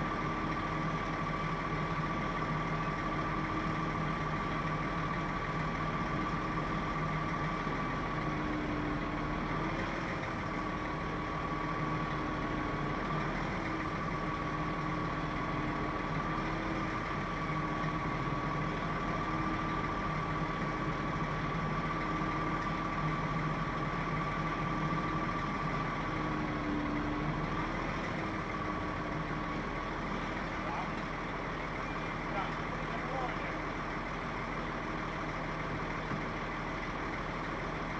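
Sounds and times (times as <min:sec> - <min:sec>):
heavy vehicle engine idling: 0:00.0 - 0:37.9.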